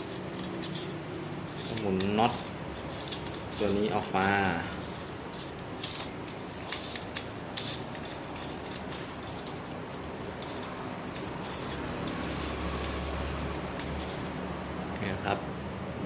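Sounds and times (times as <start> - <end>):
small metal parts clinking: 0.0 - 14.6.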